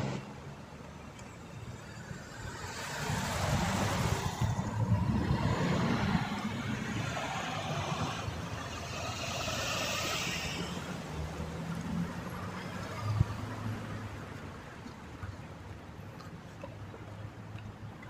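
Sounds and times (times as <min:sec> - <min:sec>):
cars driving past: 0:00.0 - 0:18.0
steady engine hum: 0:00.0 - 0:18.0.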